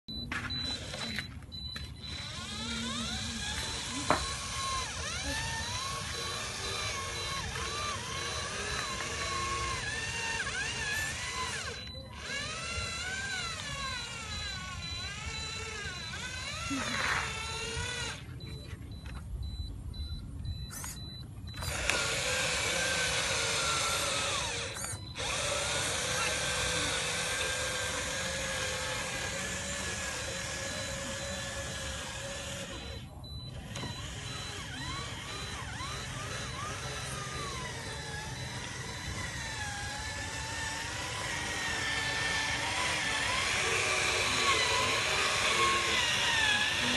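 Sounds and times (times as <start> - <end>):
electric motor whine: 0.1 - 21.0, 21.6 - 46.9.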